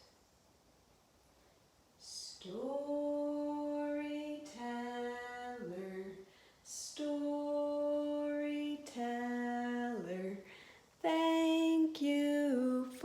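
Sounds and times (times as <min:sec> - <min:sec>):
woman singing lullaby: 0:02.0 - 0:13.0.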